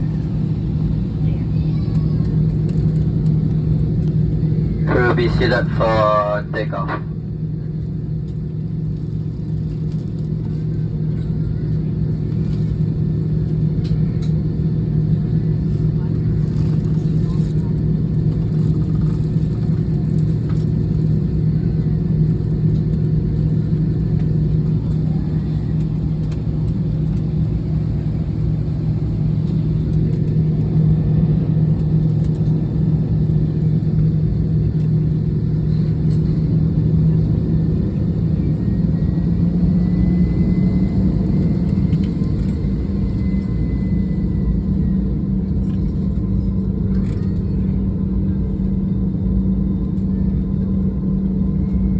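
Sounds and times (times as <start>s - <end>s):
jet engine and runway rumble: 0.0s - 51.9s.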